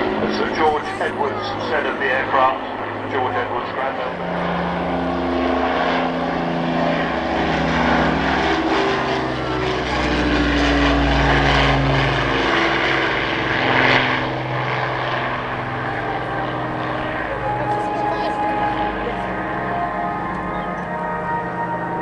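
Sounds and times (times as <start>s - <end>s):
piston engines droning: 0.0s - 22.0s.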